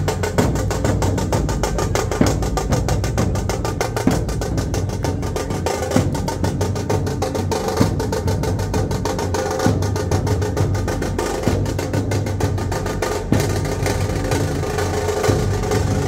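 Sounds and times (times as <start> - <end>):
dhol drumming: 0.0 - 16.0.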